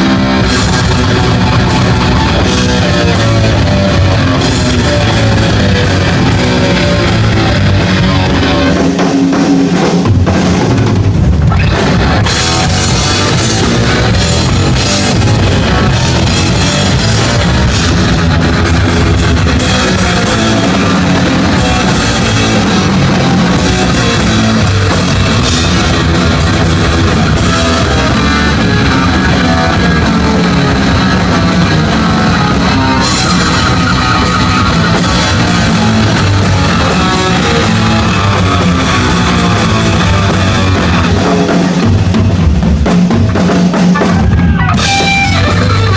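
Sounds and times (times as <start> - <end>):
drum solo: 0.0 - 45.9
heavy bass drum: 0.0 - 45.9.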